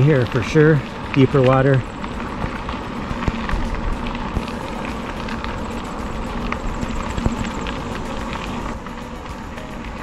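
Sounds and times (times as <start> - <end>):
bicycle tyres rolling on trail: 0.0 - 10.0.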